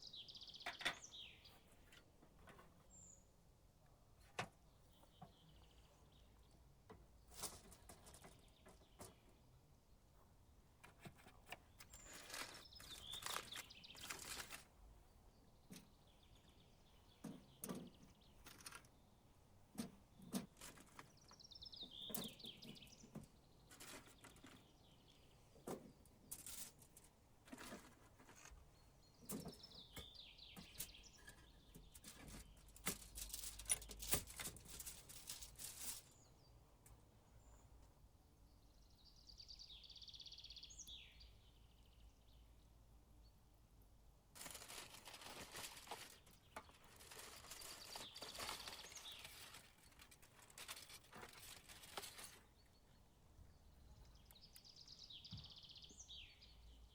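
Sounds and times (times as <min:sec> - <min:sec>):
songbird chirping: 0:00.0 - 0:56.9.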